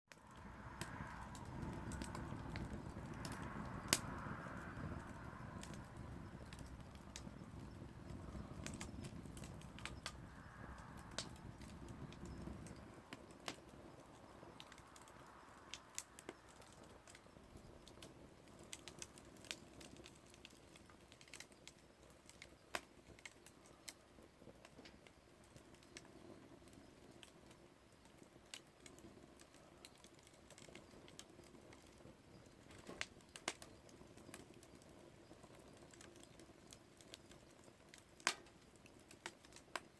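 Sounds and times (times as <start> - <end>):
bonfire crackling and popping: 0.1 - 39.9.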